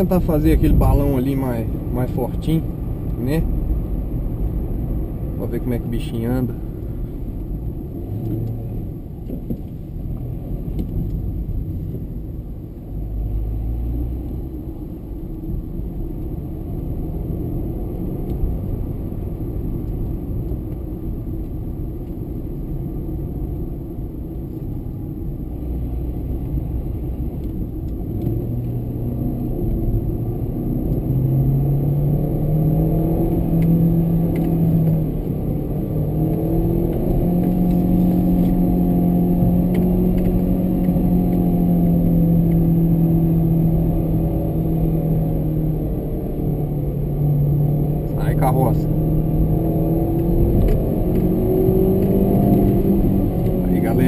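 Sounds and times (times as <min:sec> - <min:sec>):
car engine from inside cabin: 0:00.0 - 0:54.0.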